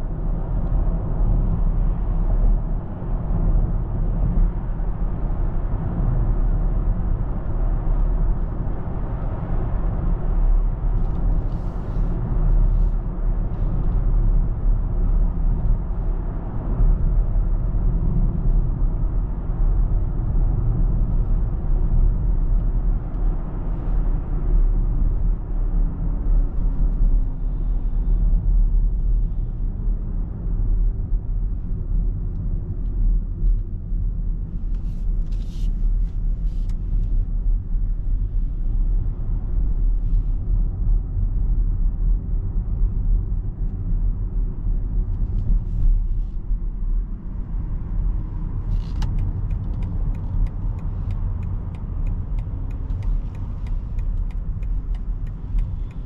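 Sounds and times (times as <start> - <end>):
road and tyre noise: 0.0 - 56.0.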